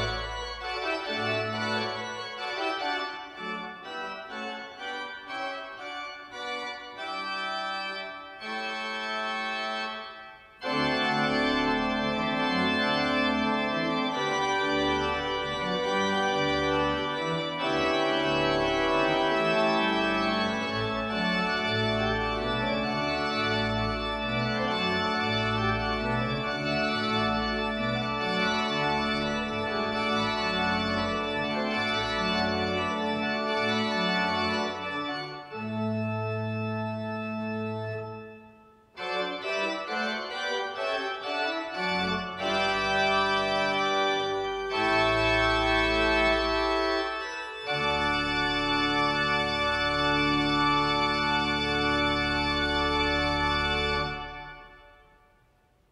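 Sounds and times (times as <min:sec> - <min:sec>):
deep organ pedal notes: 0:00.0 - 0:55.3
pipe organ chords: 0:00.0 - 0:55.8.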